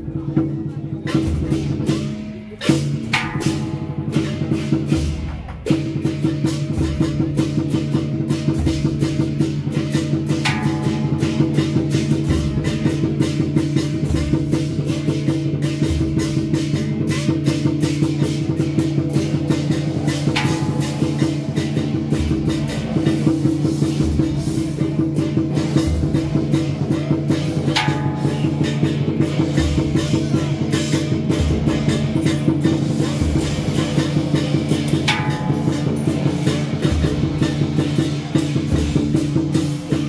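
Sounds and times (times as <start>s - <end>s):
drumbeats: 0.0s - 40.0s.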